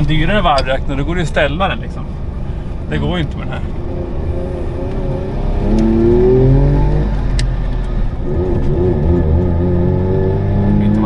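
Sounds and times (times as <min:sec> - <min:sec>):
car engine revving: 0:02.0 - 0:11.0.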